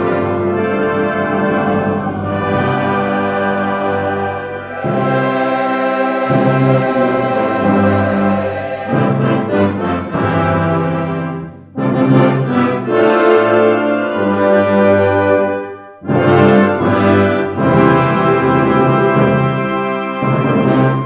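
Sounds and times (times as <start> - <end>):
brass band playing an anthem: 0.0 - 21.0.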